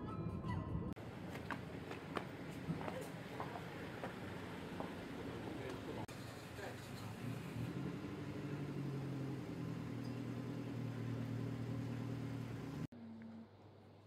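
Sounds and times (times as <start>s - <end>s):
engine idling: 1.0s - 12.9s.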